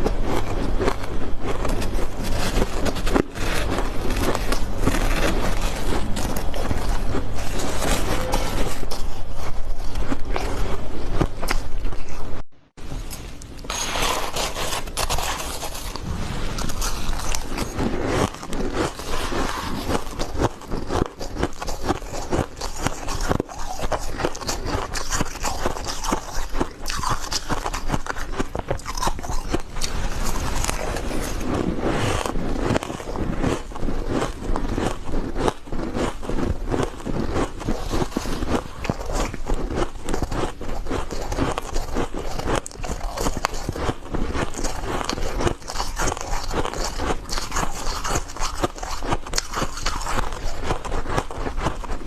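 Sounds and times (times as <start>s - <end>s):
ice being chewed: 0.0s - 52.0s.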